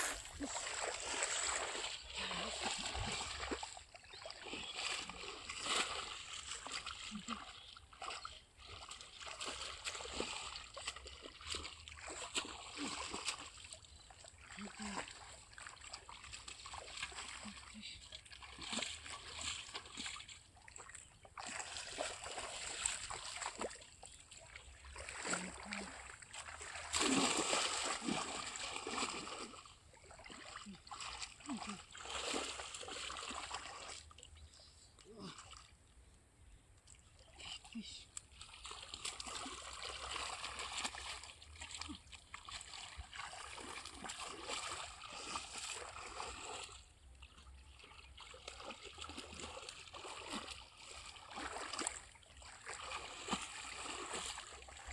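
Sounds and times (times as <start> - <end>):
shallow water splashing: 0.0 - 34.5, 37.1 - 54.9.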